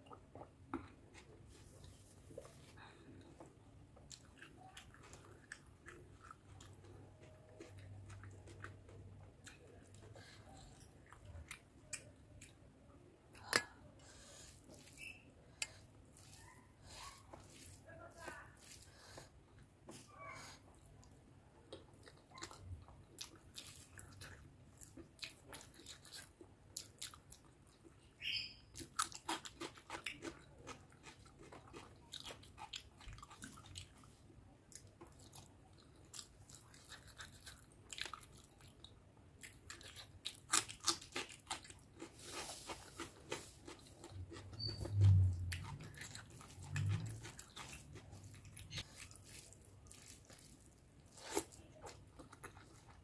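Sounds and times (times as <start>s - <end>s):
wet chewing and mouth smacks: 0.0s - 12.6s, 13.3s - 20.0s, 20.7s - 53.0s.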